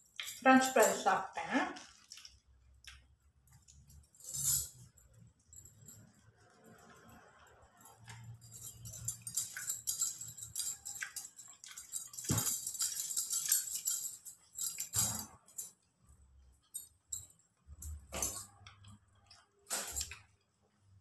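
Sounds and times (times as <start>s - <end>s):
metal bangles jingling: 0.0s - 20.4s.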